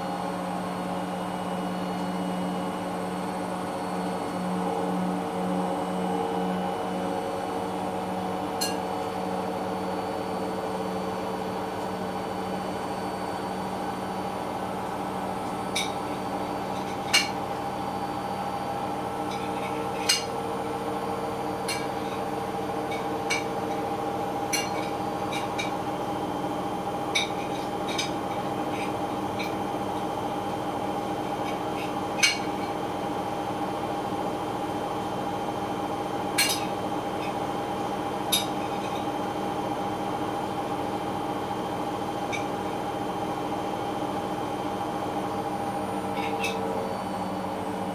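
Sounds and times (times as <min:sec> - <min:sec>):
washing machine motor hum: 0:00.0 - 0:47.9.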